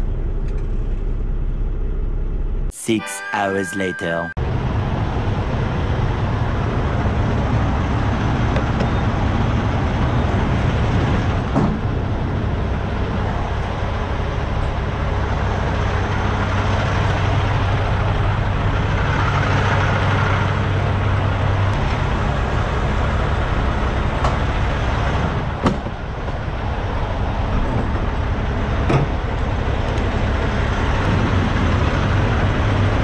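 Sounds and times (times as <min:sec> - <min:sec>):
continuous rushing noise: 0:04.4 - 0:33.0
diesel truck engine idling: 0:04.4 - 0:33.0.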